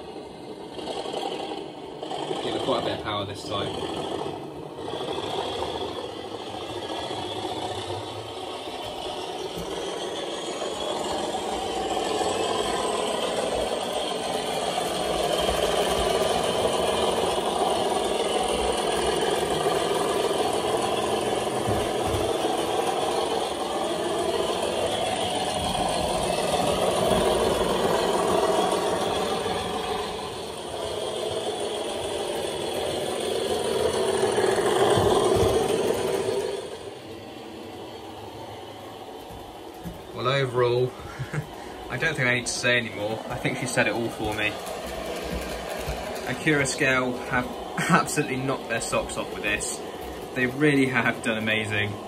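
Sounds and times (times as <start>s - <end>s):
diesel engine working hard: 0.0s - 52.0s
model train rattling on track: 0.0s - 52.0s.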